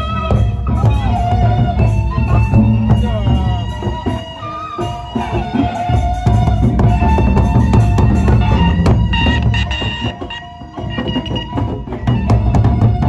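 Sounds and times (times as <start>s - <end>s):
barrel drums fast rhythm: 0.0s - 13.0s.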